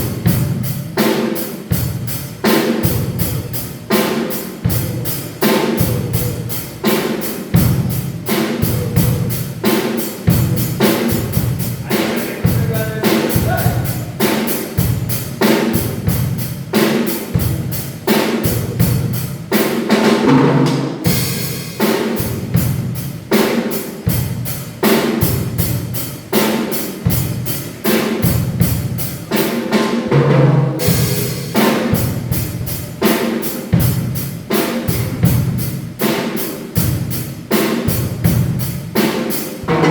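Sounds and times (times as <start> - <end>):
drum kit fast beat: 0.0 - 39.9.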